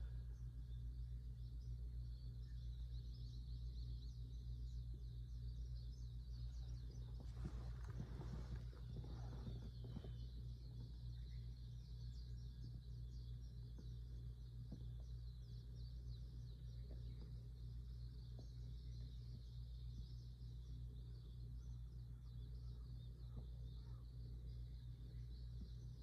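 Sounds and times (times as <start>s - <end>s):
low hum: 0.0s - 26.0s
small birds chirping: 0.0s - 26.0s.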